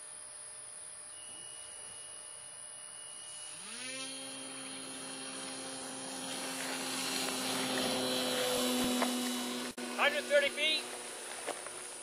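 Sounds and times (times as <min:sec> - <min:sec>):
model airplane motor and propeller: 0:00.0 - 0:12.0.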